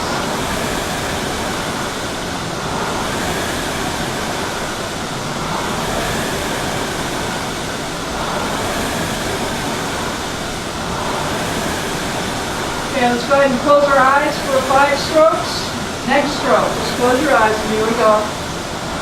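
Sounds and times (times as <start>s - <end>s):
rowing machine flywheel whooshing: 0.0s - 19.0s.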